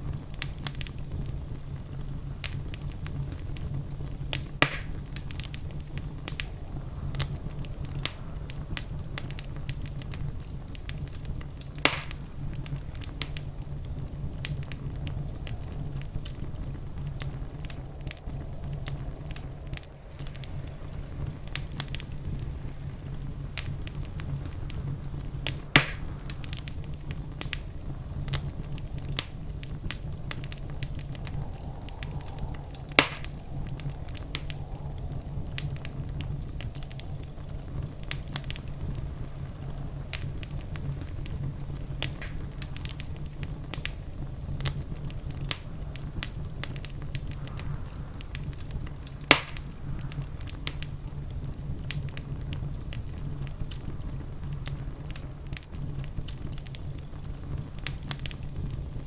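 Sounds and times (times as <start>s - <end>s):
fireplace fire crackling: 0.0s - 59.0s
loud fire pops: 0.0s - 59.0s.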